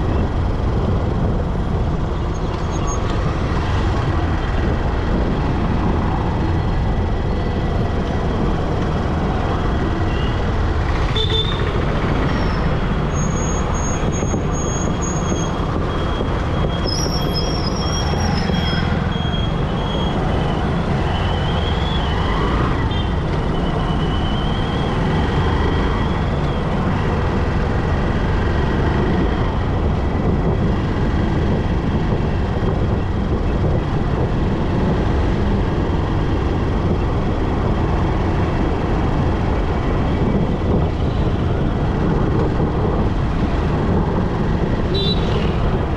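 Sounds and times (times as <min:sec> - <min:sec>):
road traffic noise: 0:00.0 - 0:45.9.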